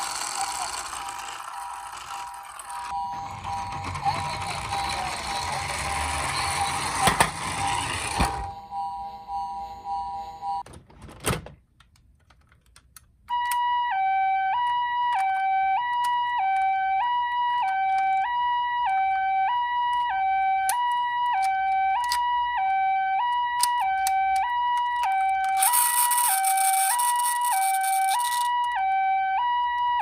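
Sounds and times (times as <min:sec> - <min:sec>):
toy two-tone siren: 0:00.0 - 0:10.6, 0:13.3 - 0:30.0.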